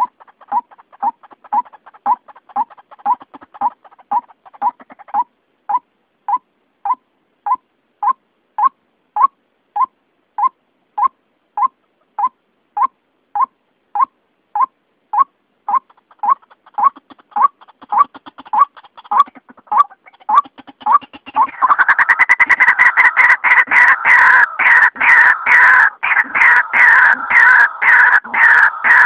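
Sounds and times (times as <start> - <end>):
bird calling repeated notes: 0.0 - 29.0.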